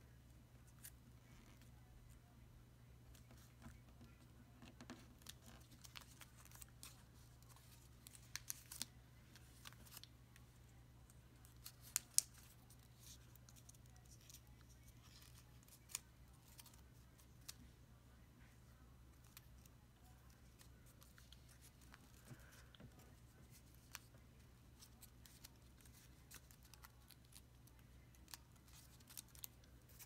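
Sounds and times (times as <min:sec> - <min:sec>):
paper crackles and snaps: 0:03.1 - 0:10.4, 0:11.0 - 0:17.6, 0:19.1 - 0:30.0
paper being folded: 0:03.2 - 0:10.1, 0:11.4 - 0:17.6, 0:19.1 - 0:30.0.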